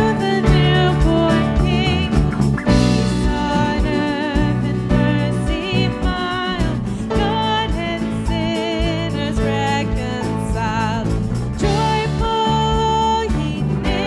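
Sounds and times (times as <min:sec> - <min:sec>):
held low notes: 0:00.0 - 0:14.0
steady beat: 0:00.0 - 0:14.0
strummed acoustic guitar: 0:00.0 - 0:14.0
woman singing with vibrato: 0:00.0 - 0:14.0.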